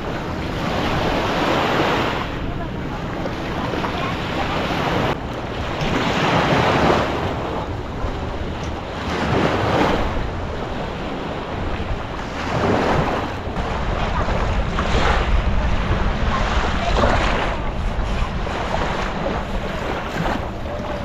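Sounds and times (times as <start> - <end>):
rushing water: 0.0 - 21.0
wind buffeting the microphone: 0.0 - 21.0.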